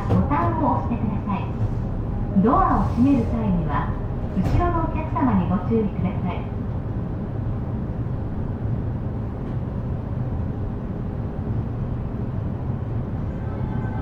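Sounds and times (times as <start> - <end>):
train car low rumble: 0.0 - 14.0.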